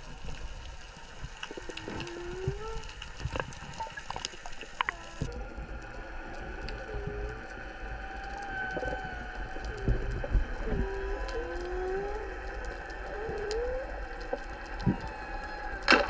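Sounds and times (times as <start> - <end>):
low underwater rumble: 0.0 - 16.0
wavering underwater moans: 1.4 - 16.0.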